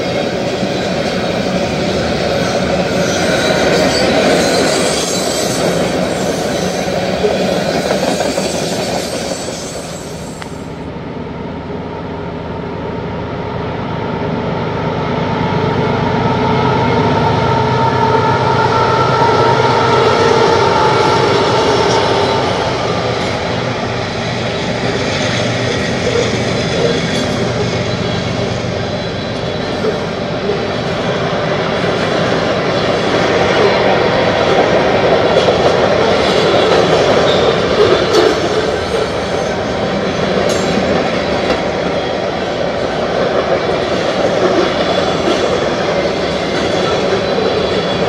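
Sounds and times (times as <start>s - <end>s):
train wheels rumbling over rails: 0.0s - 48.0s.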